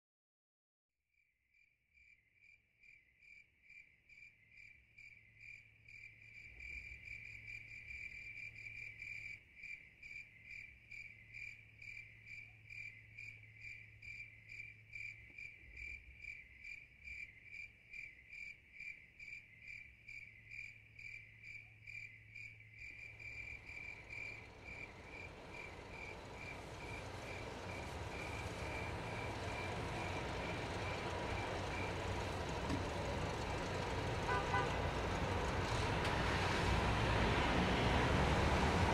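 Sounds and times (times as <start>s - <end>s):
cricket chirping: 1.5s - 35.9s.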